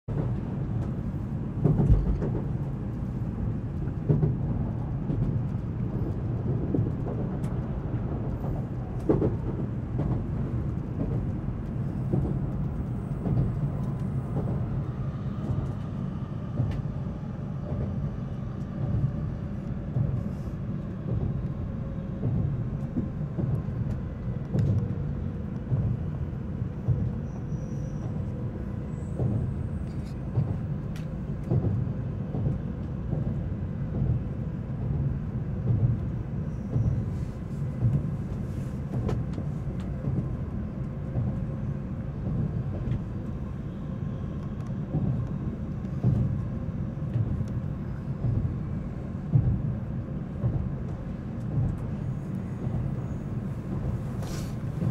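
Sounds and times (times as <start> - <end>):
train cabin low rumble: 0.0 - 54.9.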